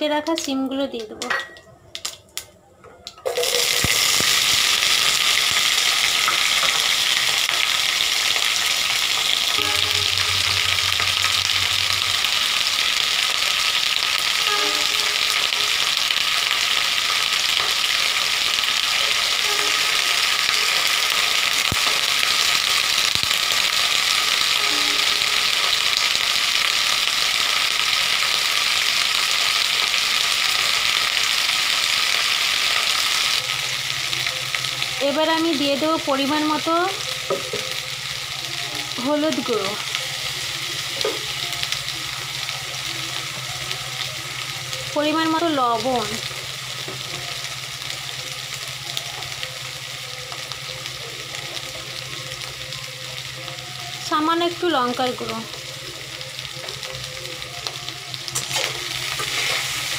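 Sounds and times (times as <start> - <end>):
beans sizzling in hot oil: 3.2 - 59.9.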